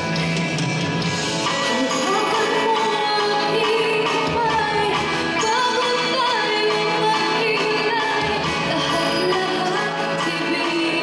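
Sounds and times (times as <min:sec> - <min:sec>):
live band with guitar: 0:00.0 - 0:11.0.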